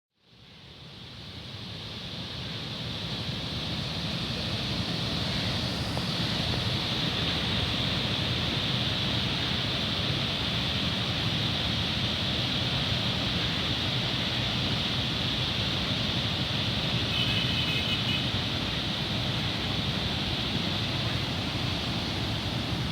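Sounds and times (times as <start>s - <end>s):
canal water rushing: 1.2s - 22.9s.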